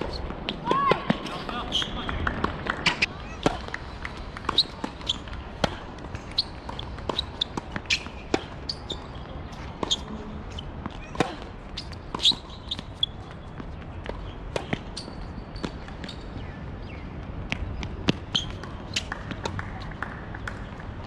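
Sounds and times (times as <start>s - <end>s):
tennis ball hit and bouncing: 0.0s - 10.2s, 10.8s - 16.2s, 17.5s - 20.8s.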